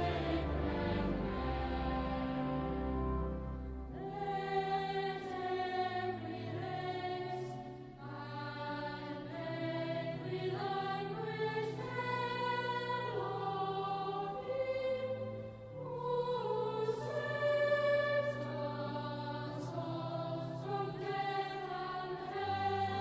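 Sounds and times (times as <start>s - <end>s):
choir singing long held notes: 0.0s - 23.0s.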